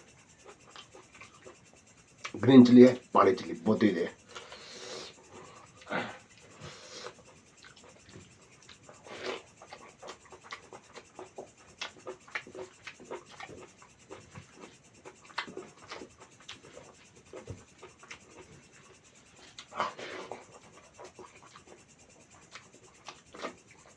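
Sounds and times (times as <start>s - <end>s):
person chewing food: 0.4s - 3.1s, 4.2s - 23.9s.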